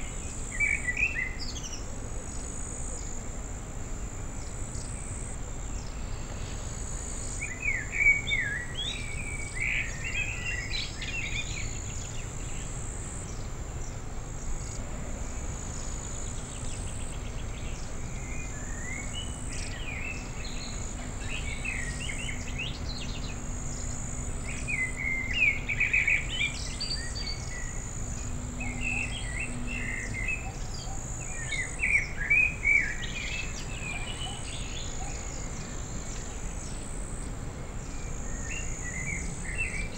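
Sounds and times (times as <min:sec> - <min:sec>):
songbird singing: 0:00.0 - 0:39.9
insect chirring: 0:04.0 - 0:39.9.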